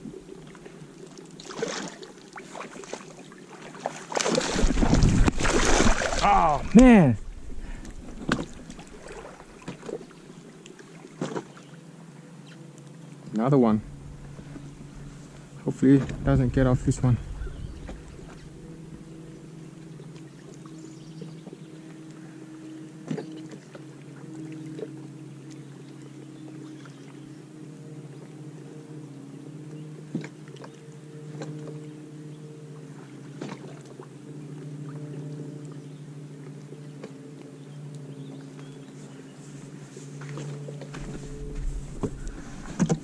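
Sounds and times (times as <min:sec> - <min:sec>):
light water noise: 0:00.0 - 0:43.0
steady low hum: 0:04.3 - 0:11.1, 0:11.7 - 0:43.0.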